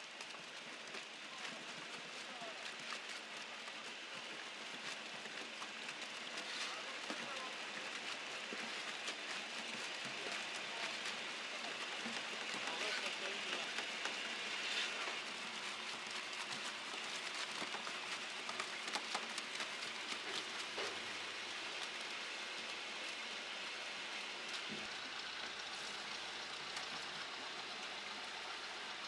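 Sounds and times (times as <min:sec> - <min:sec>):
fruit pattering and clattering: 0:00.1 - 0:29.0
processing machine running: 0:03.4 - 0:29.0.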